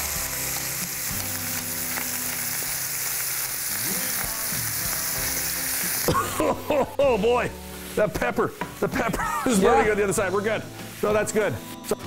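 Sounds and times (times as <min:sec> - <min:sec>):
meat sizzling in a grill pan: 0:00.0 - 0:12.0.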